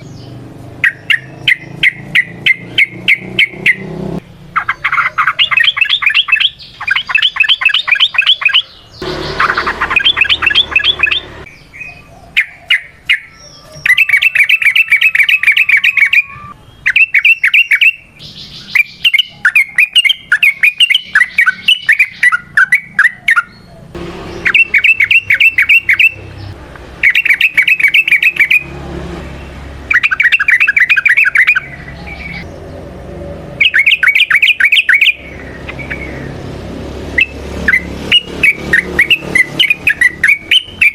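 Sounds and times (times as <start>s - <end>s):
bulbul singing fast chattering notes: 0.0s - 11.5s, 13.9s - 28.7s, 29.4s - 32.7s, 33.5s - 36.5s, 37.1s - 40.9s.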